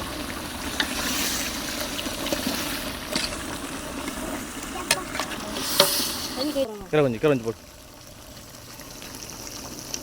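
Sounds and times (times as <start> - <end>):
meat sizzling in a pot: 0.0 - 10.0.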